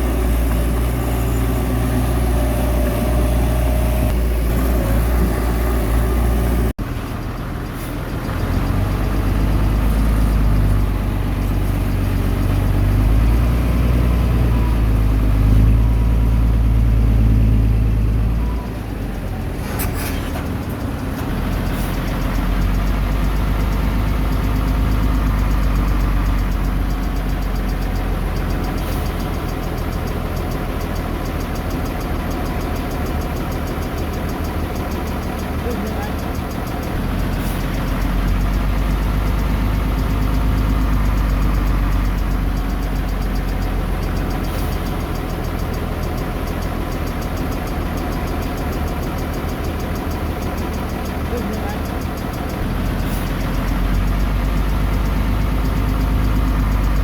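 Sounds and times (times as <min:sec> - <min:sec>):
heavy diesel engine rumble: 0:00.0 - 0:57.0.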